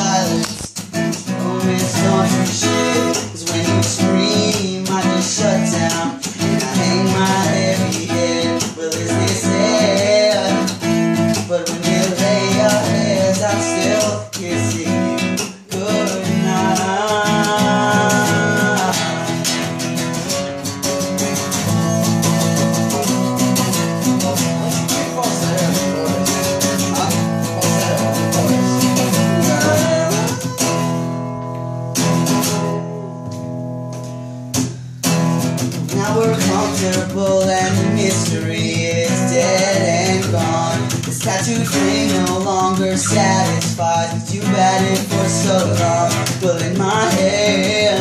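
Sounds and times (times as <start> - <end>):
man singing: 0.0 - 20.4, 21.1 - 31.4, 32.3 - 33.4, 35.7 - 48.0
acoustic guitar strumming: 0.0 - 48.0.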